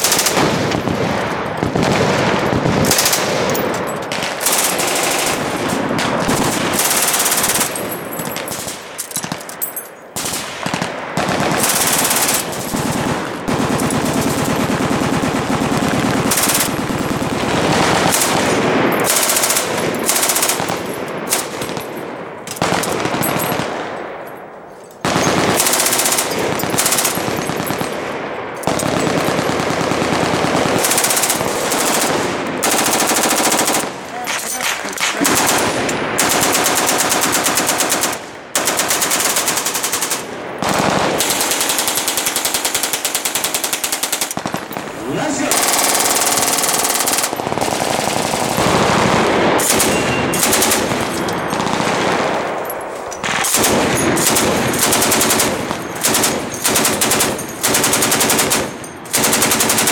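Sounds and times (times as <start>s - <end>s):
machine guns firing bursts: 0.0s - 9.6s, 10.2s - 24.0s, 25.0s - 59.9s.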